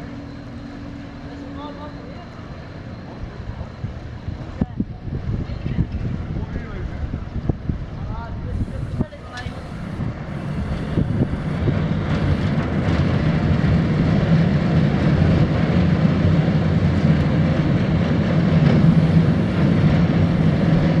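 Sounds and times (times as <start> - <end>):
ship diesel engine humming: 0.0 - 5.6, 6.2 - 21.0.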